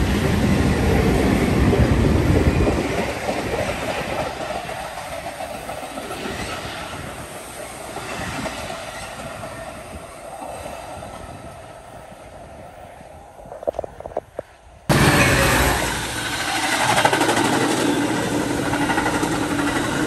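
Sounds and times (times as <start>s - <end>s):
train rolling past: 0.0s - 20.0s.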